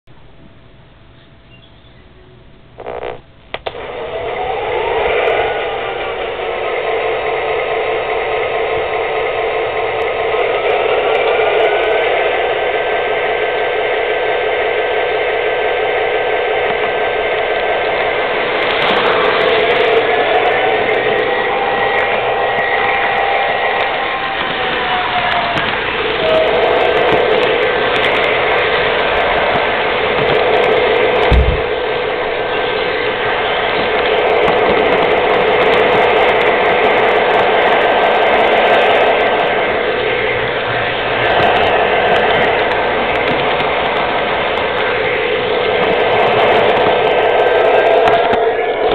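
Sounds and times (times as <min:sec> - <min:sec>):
toy train motor and wheels running: 0:02.8 - 0:48.9.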